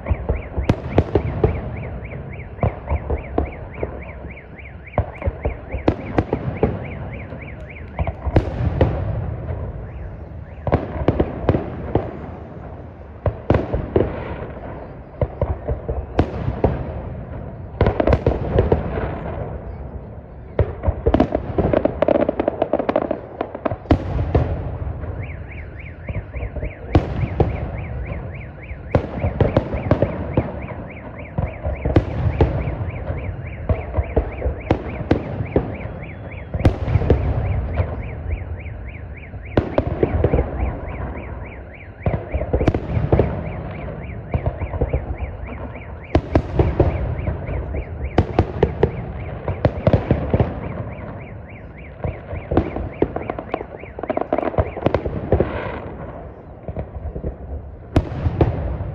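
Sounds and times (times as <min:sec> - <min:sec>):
fireworks crackling: 0:00.0 - 0:58.9.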